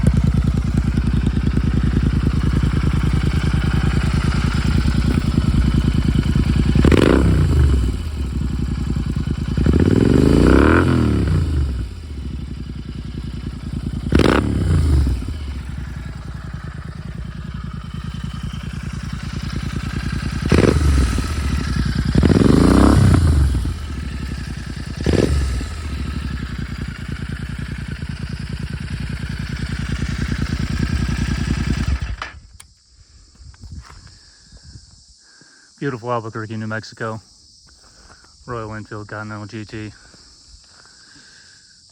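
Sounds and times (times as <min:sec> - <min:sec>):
motorcycle engine idling and revving: 0:00.0 - 0:35.1, 0:37.4 - 0:41.9.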